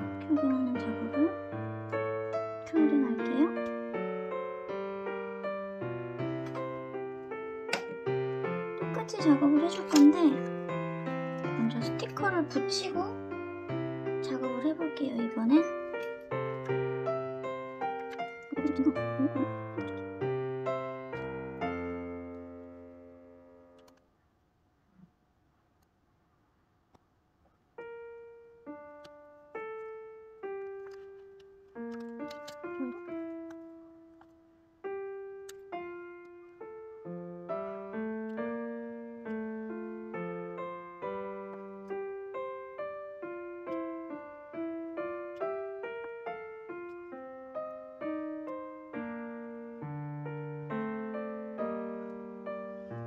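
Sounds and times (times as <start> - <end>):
slow solo piano melody: 0.0 - 24.0, 27.8 - 53.0.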